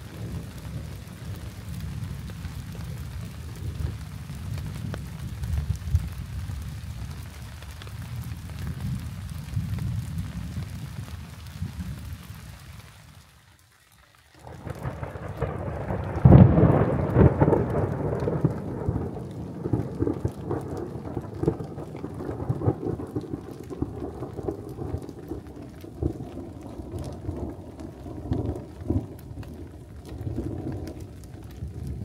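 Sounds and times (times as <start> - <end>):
thunder rumbling: 0.0 - 12.4, 14.4 - 32.0
steady rain: 0.0 - 32.0.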